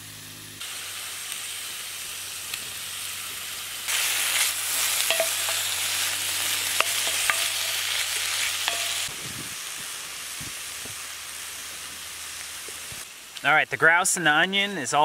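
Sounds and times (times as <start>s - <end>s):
meat and onion sizzling in skillet: 0.1s - 14.8s.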